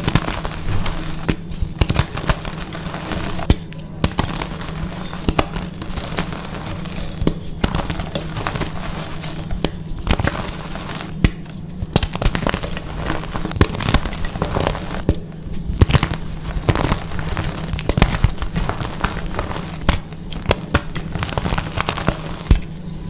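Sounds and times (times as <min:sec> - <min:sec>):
chalk blocks crunching and cracking: 0:00.0 - 0:23.0.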